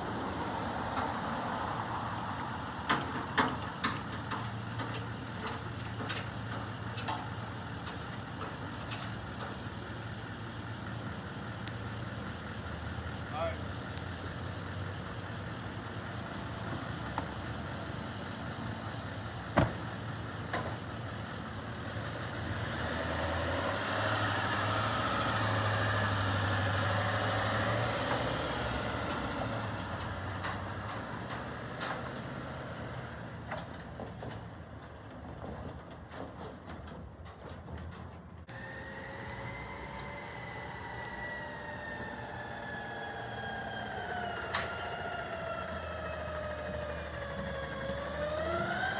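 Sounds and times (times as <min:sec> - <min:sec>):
garbage truck engine running: 0:02.2 - 0:48.9.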